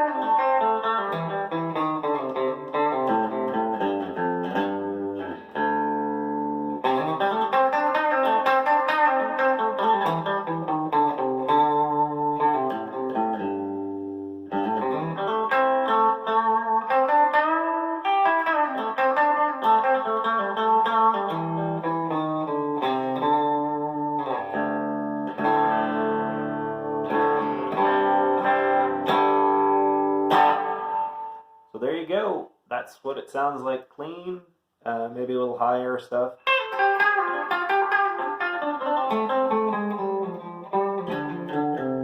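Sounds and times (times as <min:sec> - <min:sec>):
clean electric guitar: 0:00.0 - 0:31.9, 0:34.8 - 0:42.0.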